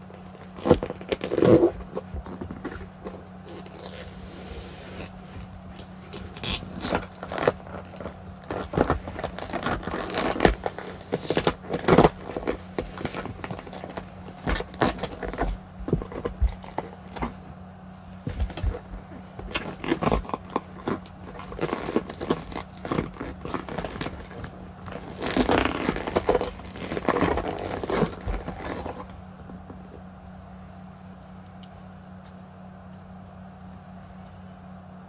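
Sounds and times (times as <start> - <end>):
rubber boots squeaking and scraping: 0.0 - 30.1.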